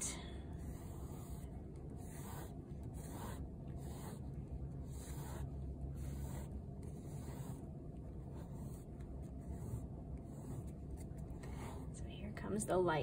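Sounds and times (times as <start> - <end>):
crayon scratching on paper: 0.4 - 12.0.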